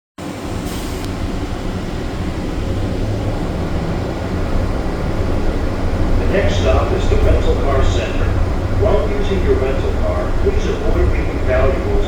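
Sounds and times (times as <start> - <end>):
train low rumble: 0.2 - 12.0.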